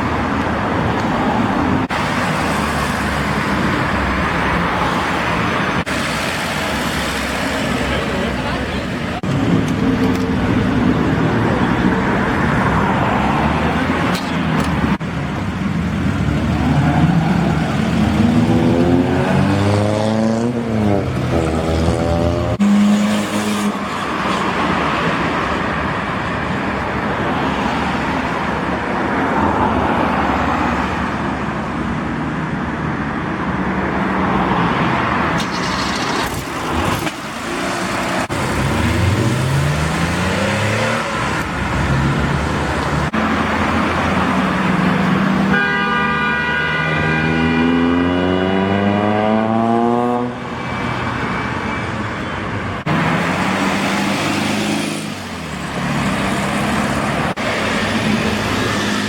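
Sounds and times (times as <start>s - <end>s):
traffic and tyre noise: 0.0s - 59.0s.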